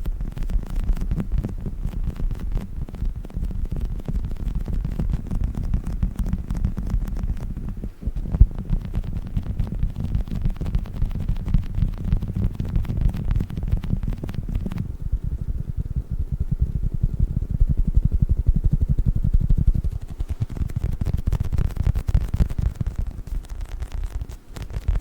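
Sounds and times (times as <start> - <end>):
low rumble: 0.0 - 24.2.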